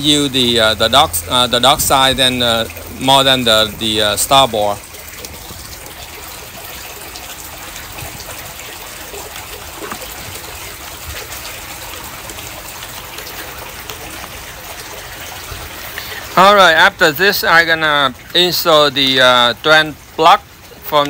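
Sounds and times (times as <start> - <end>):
water trickling: 0.0 - 21.0.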